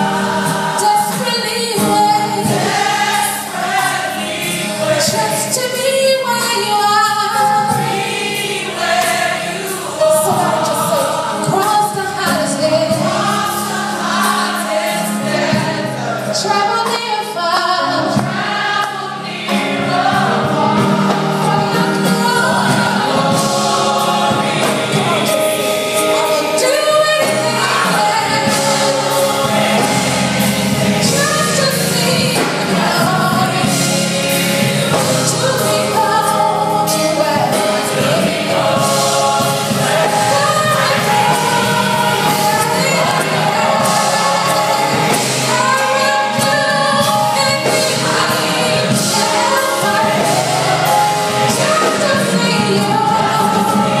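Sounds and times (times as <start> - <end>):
women's gospel choir singing: 0.0 - 54.0.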